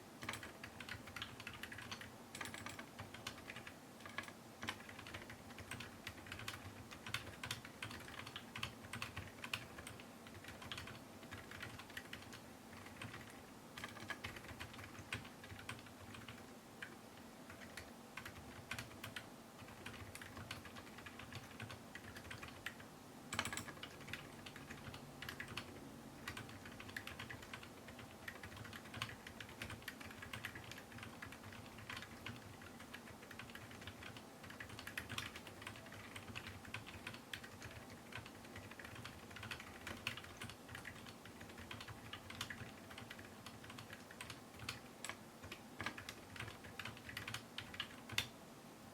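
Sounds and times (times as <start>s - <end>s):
soft mechanical keyboard typing: 0.2s - 48.4s.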